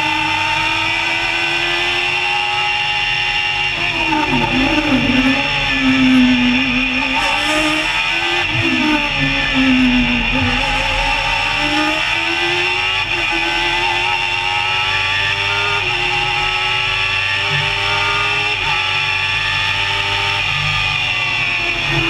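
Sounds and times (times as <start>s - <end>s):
racing car engine at full throttle: 0.0s - 22.0s.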